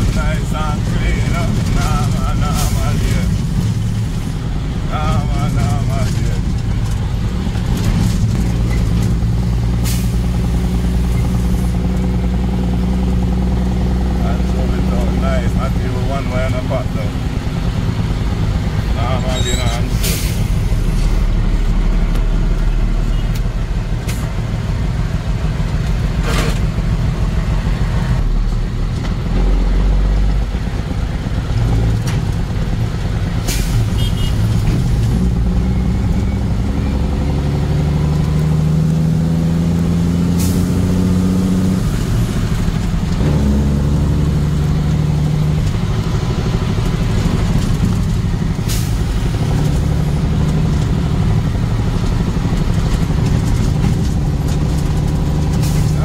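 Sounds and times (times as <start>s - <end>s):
road noise: 0.0s - 56.0s
vehicle engine: 0.0s - 56.0s.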